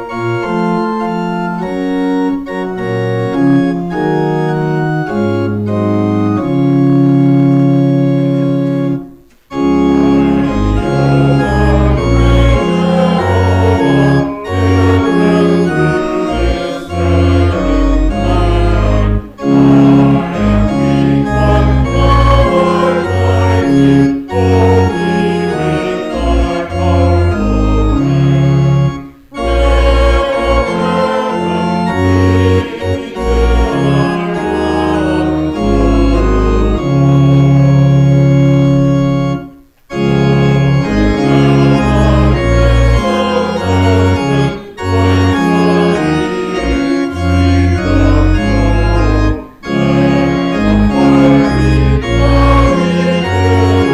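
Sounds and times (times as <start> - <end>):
church organ playing a hymn: 0.0 - 53.9.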